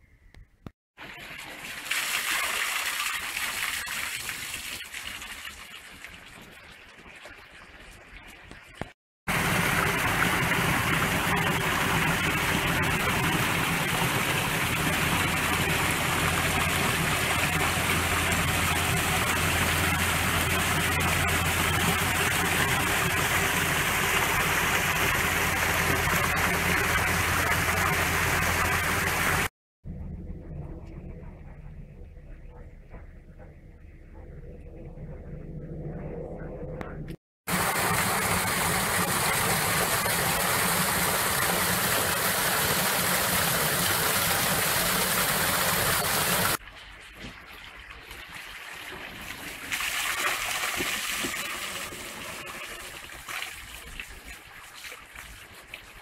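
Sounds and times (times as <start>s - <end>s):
rushing water: 1.0s - 29.5s, 37.5s - 56.0s.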